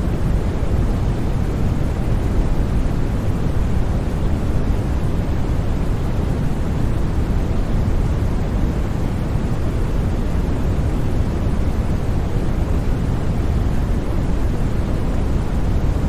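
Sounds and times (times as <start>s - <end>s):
white noise: 0.0s - 16.0s.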